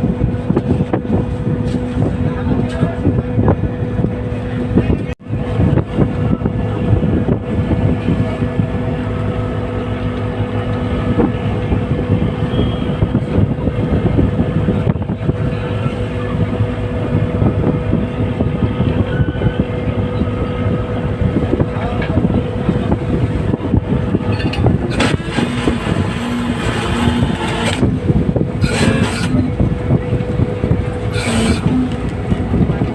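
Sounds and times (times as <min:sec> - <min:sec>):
boat engine running: 0:00.0 - 0:32.9
harsh pulsing sound: 0:00.0 - 0:32.9
waves: 0:00.0 - 0:32.9
wind: 0:00.0 - 0:32.9.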